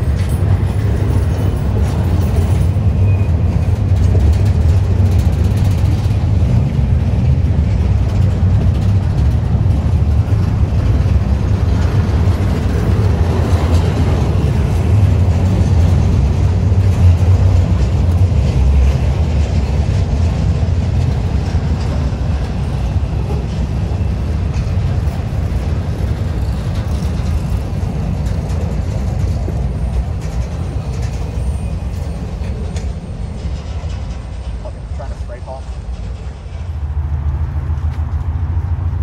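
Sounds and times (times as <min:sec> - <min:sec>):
locomotive engines rumbling: 0:00.0 - 0:39.0.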